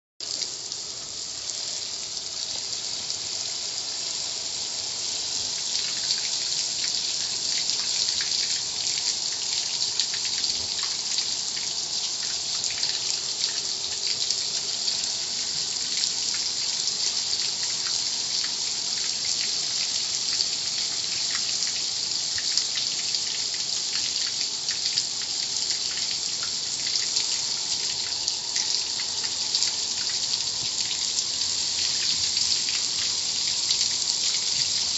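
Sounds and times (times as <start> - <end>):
water spattering: 0.2 - 34.9.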